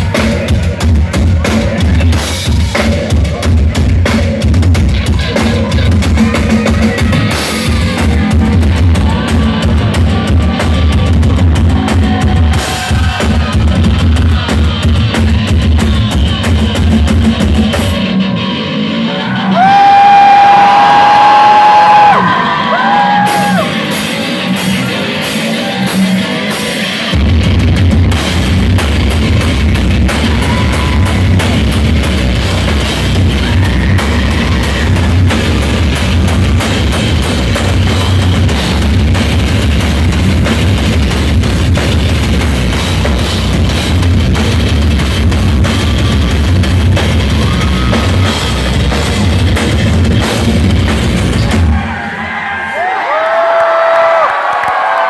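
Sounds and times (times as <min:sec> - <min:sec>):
fast drumming: 0:00.0 - 0:18.1, 0:23.1 - 0:52.0
heavy bass: 0:00.0 - 0:52.3
distorted electric guitars: 0:00.0 - 0:52.4.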